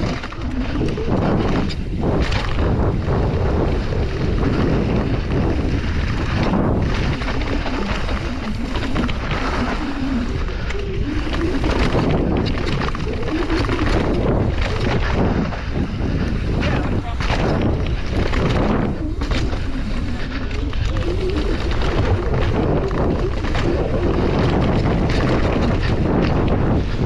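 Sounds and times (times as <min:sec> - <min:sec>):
bike clattering over bumps: 0:00.0 - 0:27.0
wind buffeting microphone: 0:00.0 - 0:27.0.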